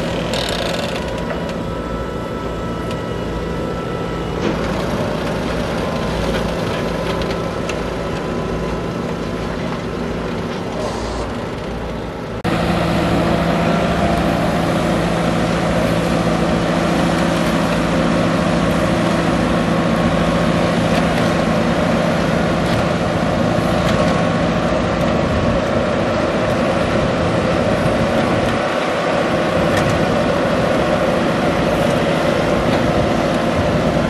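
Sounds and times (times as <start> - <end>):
tractor engine droning: 0.0 - 34.0.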